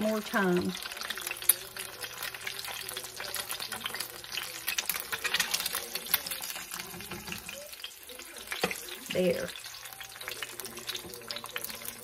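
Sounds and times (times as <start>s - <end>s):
egg sizzling in oil: 0.0s - 12.0s.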